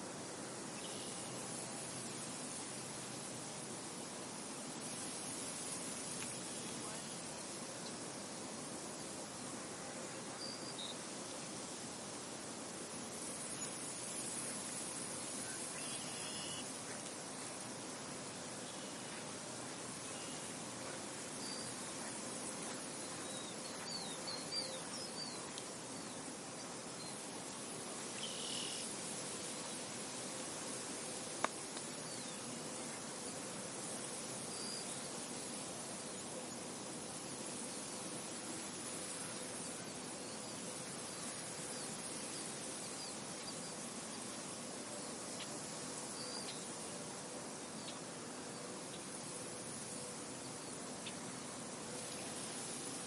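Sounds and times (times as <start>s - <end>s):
soft wind over a field: 0.0s - 53.0s.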